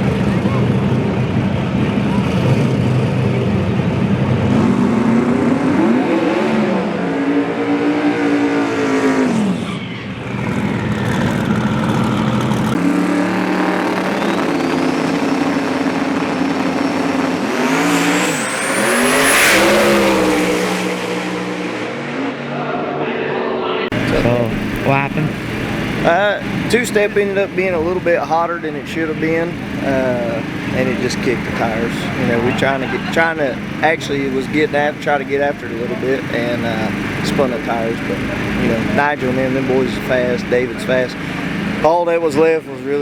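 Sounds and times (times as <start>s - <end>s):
race car engines revving: 0.0s - 43.0s.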